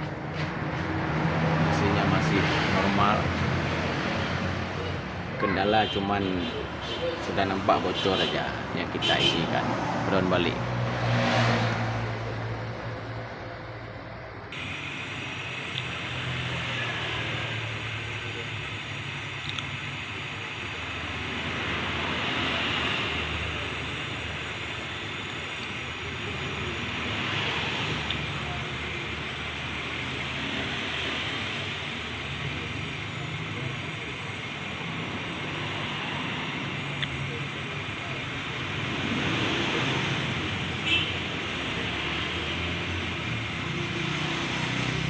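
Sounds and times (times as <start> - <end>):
brazing torch flame hissing: 0.2 - 12.9, 14.5 - 45.0.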